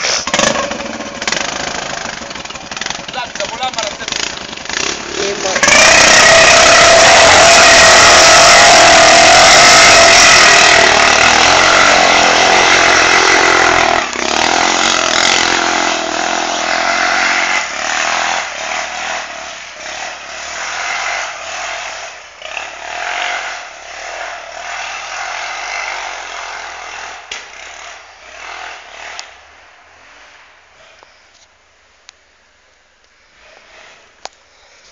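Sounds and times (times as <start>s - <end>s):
atv engine revving: 0.0s - 29.5s.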